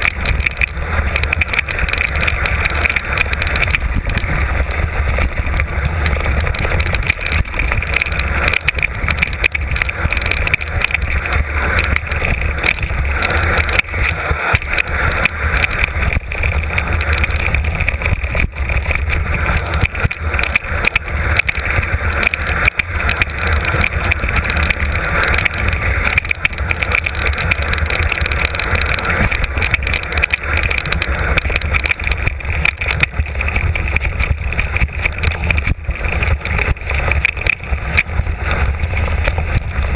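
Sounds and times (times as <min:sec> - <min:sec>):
bike rattling and knocking: 0:00.0 - 0:39.9
tyres rolling over gravel: 0:00.0 - 0:39.9
wind on microphone: 0:00.0 - 0:39.9.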